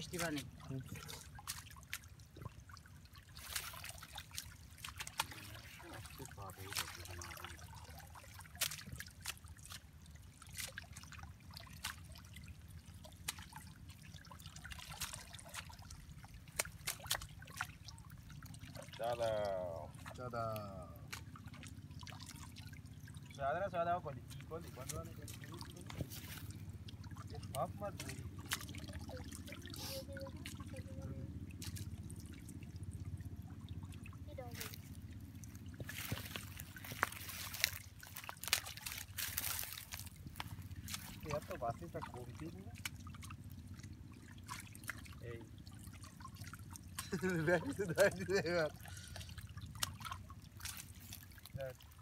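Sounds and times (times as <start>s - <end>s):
water dripping: 0.0s - 23.4s, 24.2s - 52.0s
low steady rumble: 0.0s - 52.0s
water trickling and splashing: 0.0s - 52.0s.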